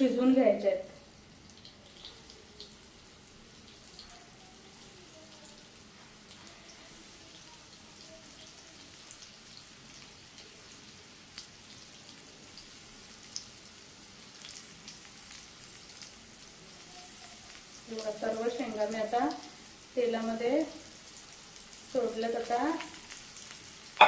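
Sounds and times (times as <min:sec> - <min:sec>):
oil sizzling in a frying pan: 0:00.0 - 0:24.0.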